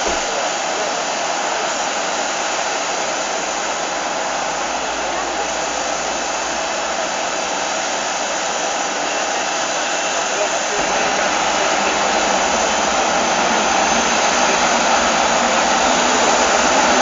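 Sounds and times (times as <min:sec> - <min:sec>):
jet engine whoosh: 0:02.2 - 0:17.0.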